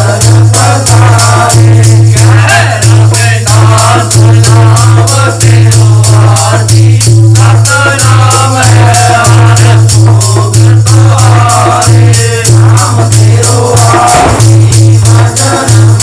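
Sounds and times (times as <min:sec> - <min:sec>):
dholak drum: 0:00.0 - 0:16.0
men singing a hymn: 0:00.0 - 0:16.0
rattling percussion: 0:00.0 - 0:16.0.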